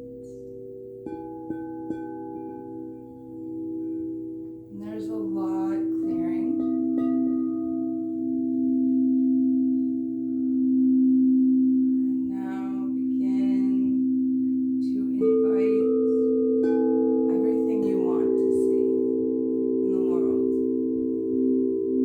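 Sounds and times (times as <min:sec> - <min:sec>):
singing bowls ringing: 0:00.0 - 0:22.0.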